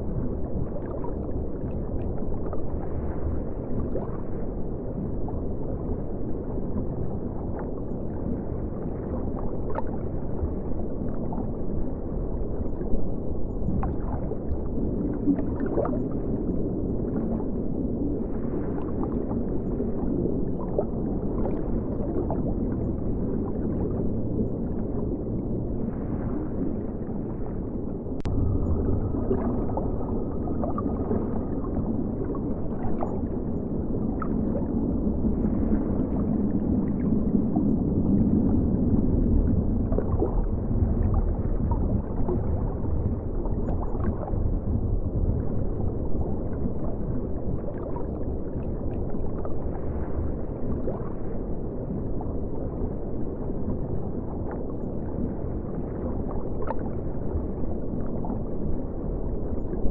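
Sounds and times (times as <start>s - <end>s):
muffled river water rushing: 0.0s - 59.9s.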